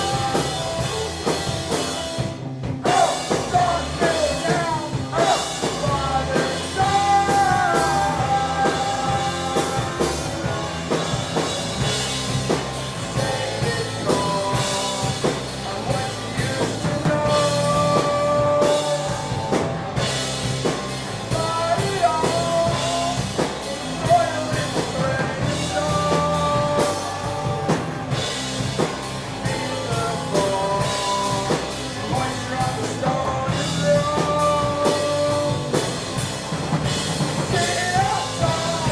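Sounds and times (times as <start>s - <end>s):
person singing: 0.0s - 2.1s, 2.8s - 11.1s, 12.5s - 20.3s, 21.1s - 36.3s, 37.4s - 38.9s
drum kit: 0.0s - 38.9s
rock band playing live: 0.0s - 38.9s.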